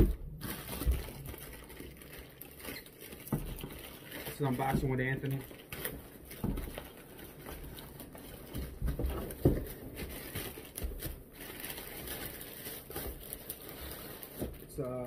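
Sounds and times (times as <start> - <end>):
plastic mailer crinkling and tearing: 0.3 - 15.0.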